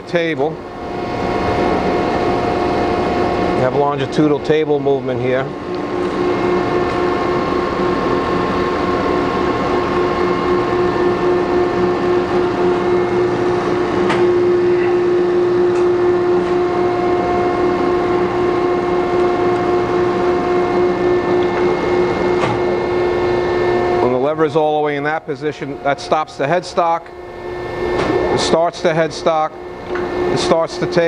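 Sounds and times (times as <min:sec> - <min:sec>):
grinding machine humming: 0:00.0 - 0:31.0.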